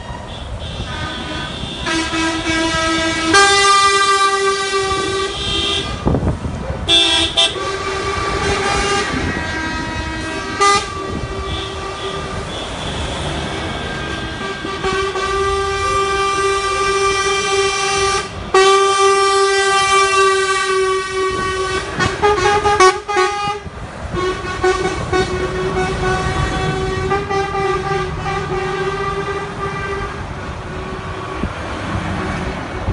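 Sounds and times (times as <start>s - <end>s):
truck air horns blasting: 0.0s - 31.6s
diesel engines running: 0.0s - 32.9s.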